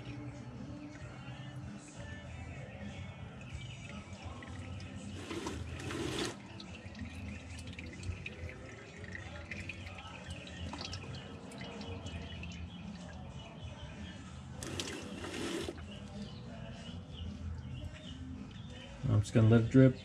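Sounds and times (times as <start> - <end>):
oil trickling and dripping: 0.0 - 19.4.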